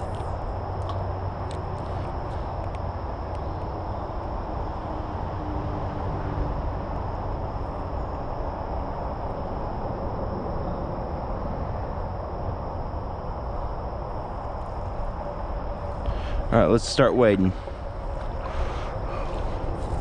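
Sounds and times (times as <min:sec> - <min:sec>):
insects trilling: 0:00.0 - 0:20.0
low rushing noise: 0:00.0 - 0:20.0.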